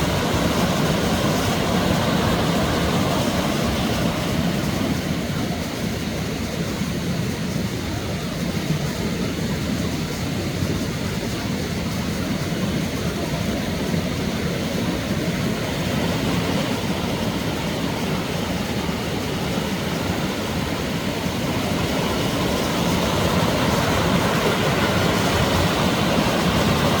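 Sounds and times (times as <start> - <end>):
stream water rushing over rocks: 0.0 - 27.0.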